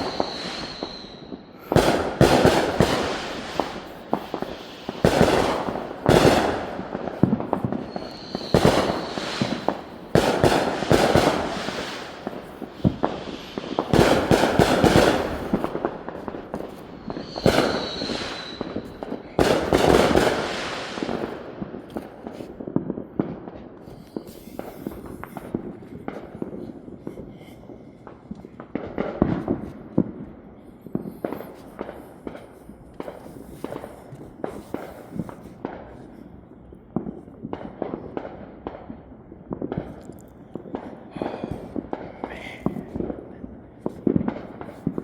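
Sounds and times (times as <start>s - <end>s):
fireworks popping and banging: 0.0s - 45.0s.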